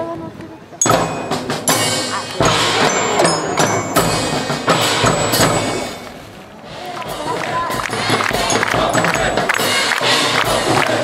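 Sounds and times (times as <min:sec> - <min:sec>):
festival percussion ensemble: 0:00.8 - 0:11.0
heavy drum beats: 0:00.8 - 0:11.0.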